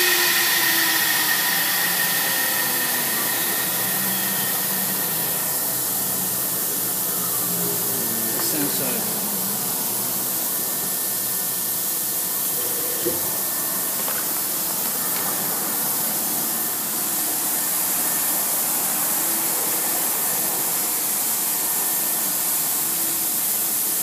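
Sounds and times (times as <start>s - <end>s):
faint high whine: 0.0s - 24.0s
milling machine hiss: 0.0s - 24.0s.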